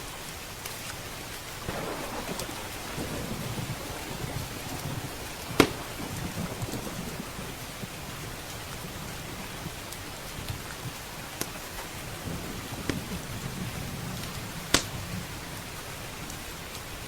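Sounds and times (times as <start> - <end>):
steady rain: 0.0 - 17.0
wood fire crackling: 0.5 - 17.0
thunder rumbling: 1.6 - 16.5.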